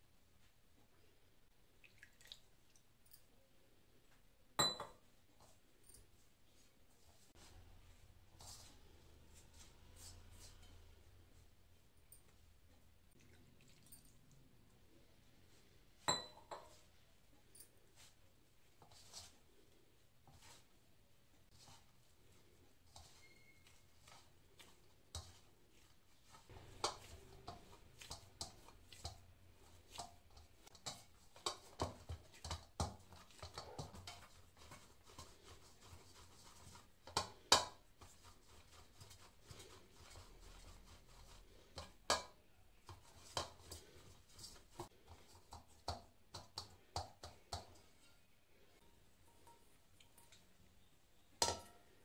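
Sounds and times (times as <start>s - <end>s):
hands kneading dough in bowl: 5.0s - 50.6s.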